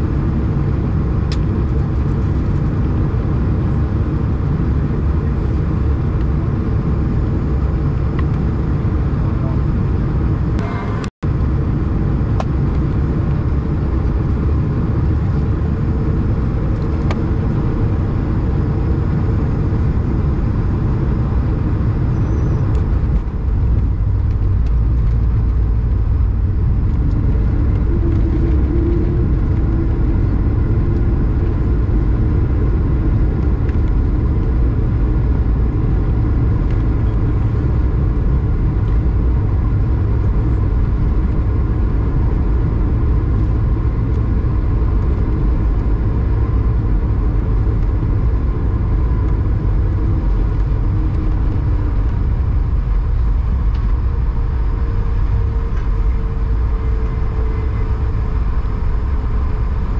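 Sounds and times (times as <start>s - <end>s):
airplane cabin rumble: 0.0s - 59.9s
wheels rumbling on runway: 0.0s - 59.9s.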